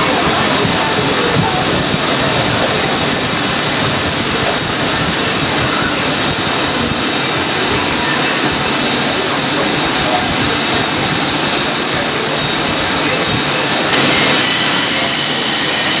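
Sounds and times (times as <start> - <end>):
recorded jet engine rush: 0.0 - 16.0.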